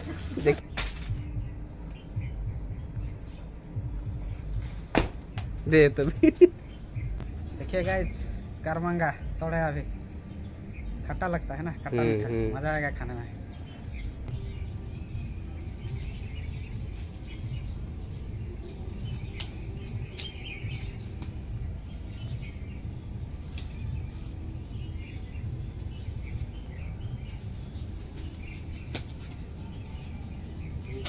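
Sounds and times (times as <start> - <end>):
steady low rumble: 0.0 - 28.9
small birds chirping: 0.0 - 31.0.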